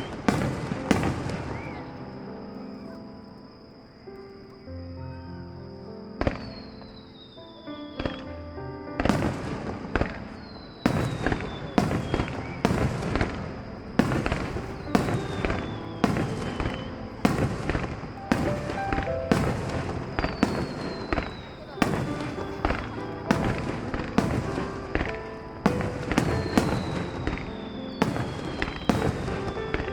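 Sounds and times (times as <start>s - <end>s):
fireworks bursting with sharp bangs: 0.0s - 3.5s, 6.2s - 8.3s, 9.0s - 29.9s
music: 0.0s - 29.9s.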